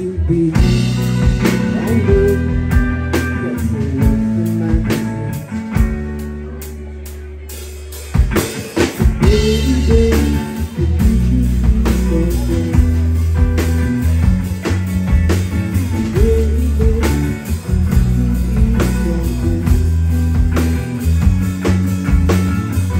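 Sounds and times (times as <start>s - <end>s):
rock band playing: 0.0s - 22.9s.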